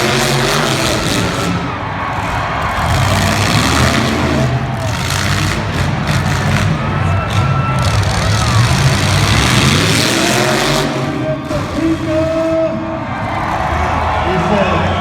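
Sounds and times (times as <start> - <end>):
car engines revving loudly: 0.0 - 15.0.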